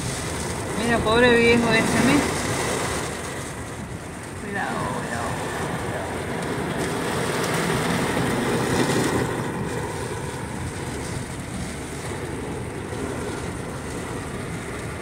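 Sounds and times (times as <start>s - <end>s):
rain on car: 0.0s - 15.0s
tyres on wet road: 0.0s - 15.0s.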